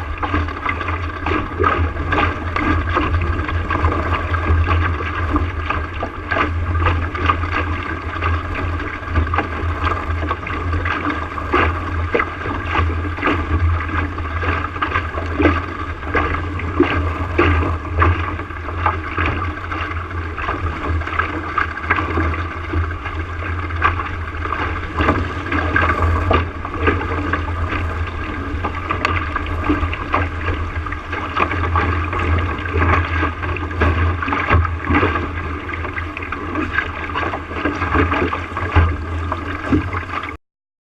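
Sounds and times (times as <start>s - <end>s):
steady low rumble: 0.0s - 40.4s
water splashing against hull: 0.0s - 40.4s.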